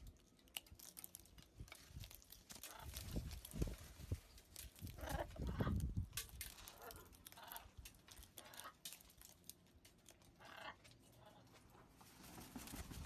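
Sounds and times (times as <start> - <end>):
beaks cracking seeds: 0.0 - 11.1.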